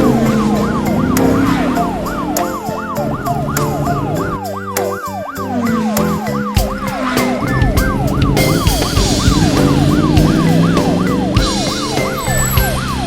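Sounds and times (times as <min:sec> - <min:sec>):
background music with a beat: 0:00.0 - 0:13.0
siren sound effect: 0:00.0 - 0:13.0.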